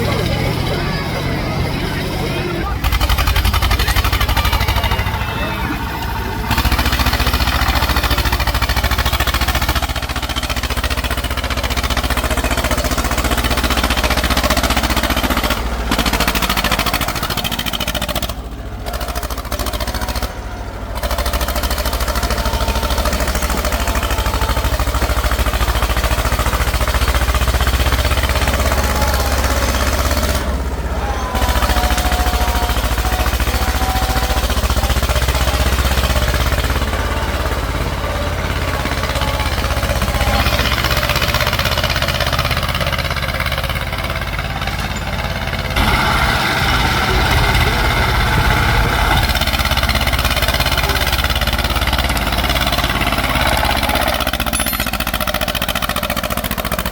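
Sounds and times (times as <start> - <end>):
tractor engines running: 0.0 - 56.9.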